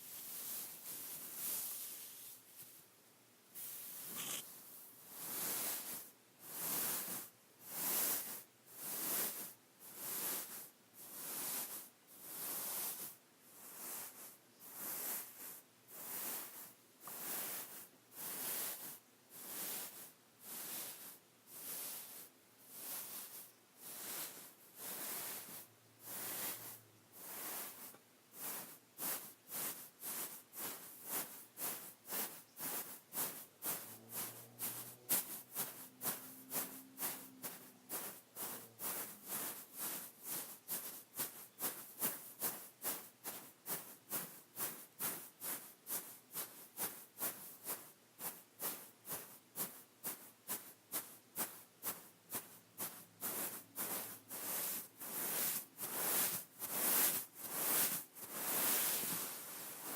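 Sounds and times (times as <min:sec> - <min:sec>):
scratching on a beaded pillow: 0:00.0 - 0:02.8, 0:03.5 - 0:59.9.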